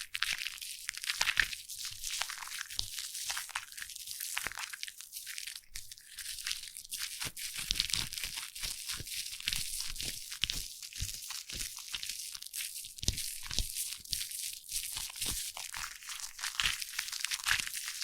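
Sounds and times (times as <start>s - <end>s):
foam crackling and squishing: 0.0s - 18.0s.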